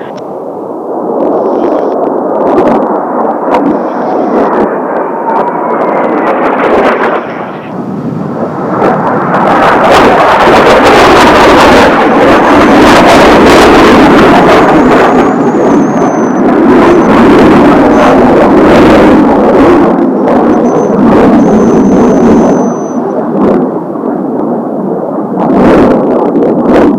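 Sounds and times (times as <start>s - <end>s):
jets flying over: 0.0s - 26.9s
wind buffeting microphone: 0.0s - 26.9s.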